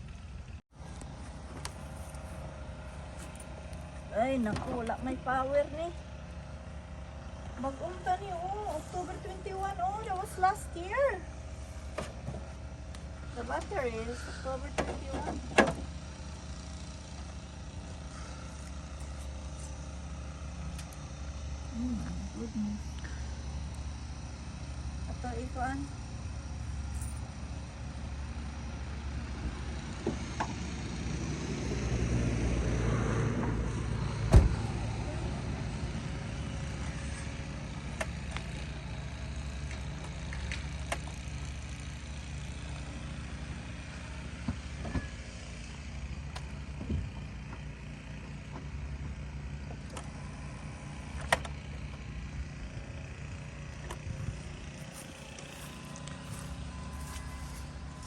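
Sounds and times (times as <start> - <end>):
vehicle engine humming: 0.0 - 58.0.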